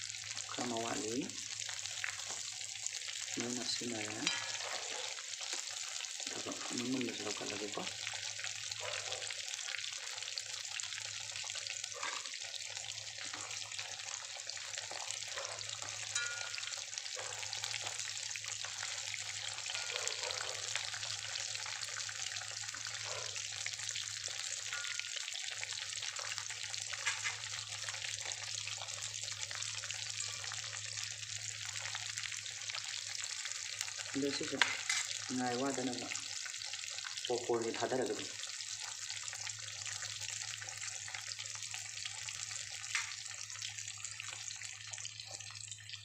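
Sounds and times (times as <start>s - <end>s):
food sizzling in hot oil: 0.0s - 46.0s.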